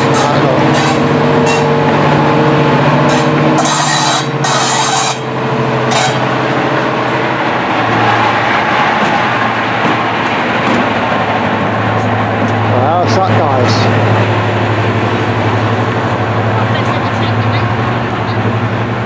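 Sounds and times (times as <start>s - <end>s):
diesel locomotive engine drone: 0.0s - 19.0s.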